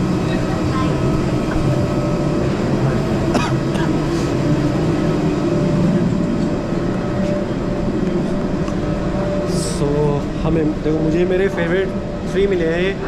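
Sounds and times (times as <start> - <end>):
aircraft engine drone: 0.0 - 13.0
faint steady whine: 0.0 - 13.0.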